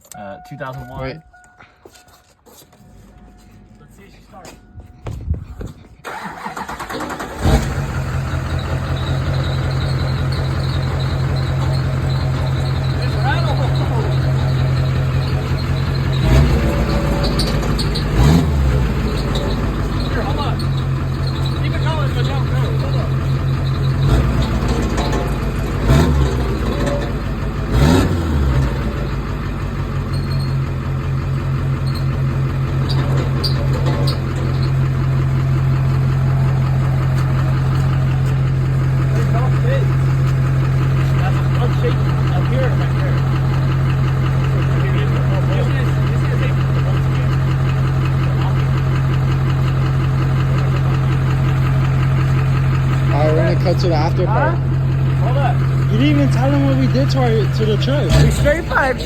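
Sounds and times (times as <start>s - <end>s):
diesel engine idling and revving: 2.8s - 59.0s.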